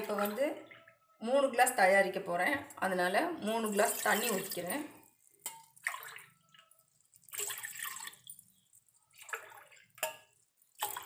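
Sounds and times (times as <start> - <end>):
water pouring into metal pot: 0.0 - 2.0, 3.6 - 11.0.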